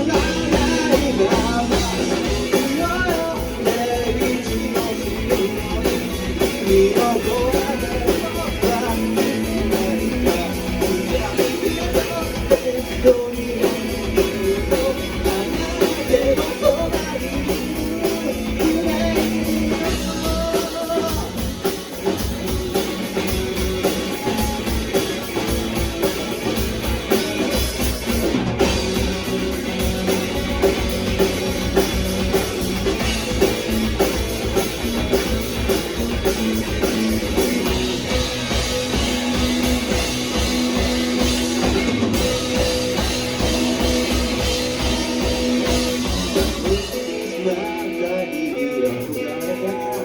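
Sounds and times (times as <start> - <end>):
drum kit: 0.0 - 50.0
electric guitars: 0.0 - 50.0.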